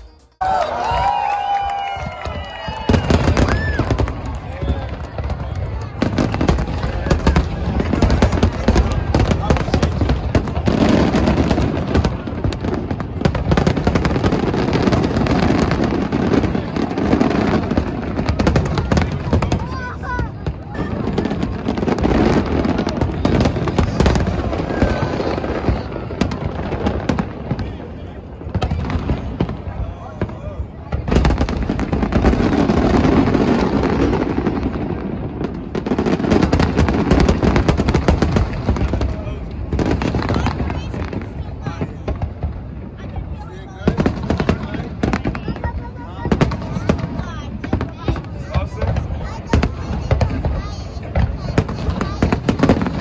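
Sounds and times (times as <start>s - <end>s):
murmur of large crowd: 0.0s - 53.0s
fireworks booms and crackling pops: 0.9s - 53.0s.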